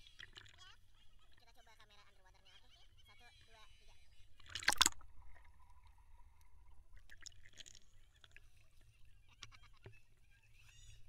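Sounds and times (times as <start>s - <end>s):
faint steady tone: 0.0s - 11.0s
faint underwater water movement: 0.0s - 11.0s.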